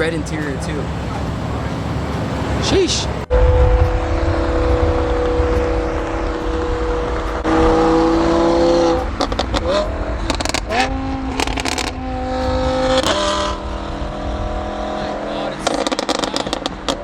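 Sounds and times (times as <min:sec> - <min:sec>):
car engine accelerating through gears: 0:00.0 - 0:17.0
exhaust crackles: 0:00.0 - 0:17.0.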